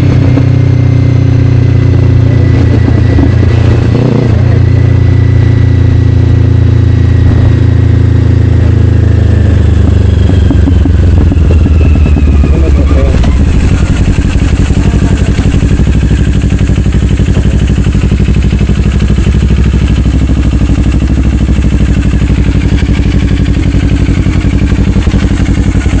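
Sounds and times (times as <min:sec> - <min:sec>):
motorcycle engine slowing: 0:00.0 - 0:26.0.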